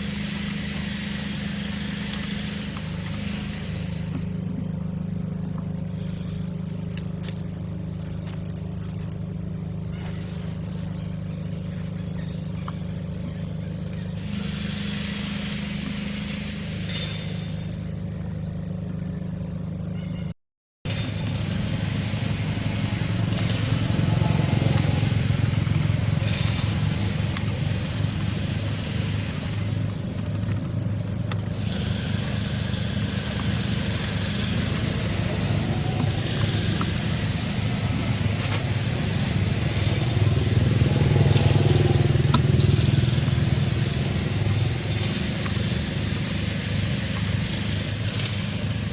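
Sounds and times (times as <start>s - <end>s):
engine idling: 0.0s - 20.3s, 20.9s - 48.9s.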